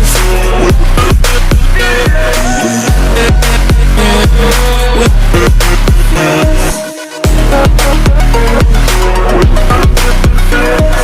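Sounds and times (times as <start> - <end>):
electronic music with heavy bass: 0.0 - 11.0
kick drum beat: 0.7 - 4.5, 5.1 - 6.6, 7.2 - 11.0.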